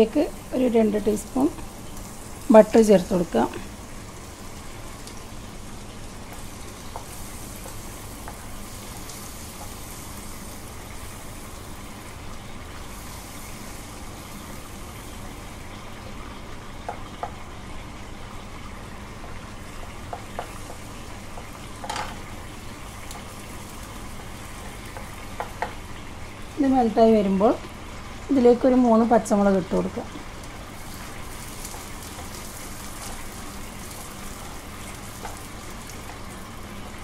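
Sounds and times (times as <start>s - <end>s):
butter sizzling in a frying pan: 0.0s - 37.0s.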